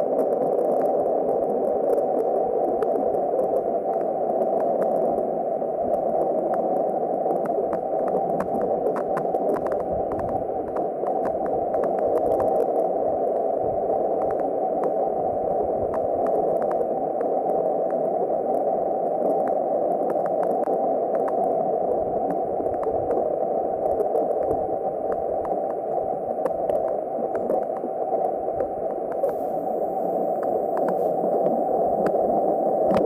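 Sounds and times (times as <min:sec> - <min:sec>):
faint scattered clicks: 0:00.0 - 0:15.0, 0:15.9 - 0:29.4, 0:30.3 - 0:33.0
dense steady noise: 0:00.0 - 0:33.0.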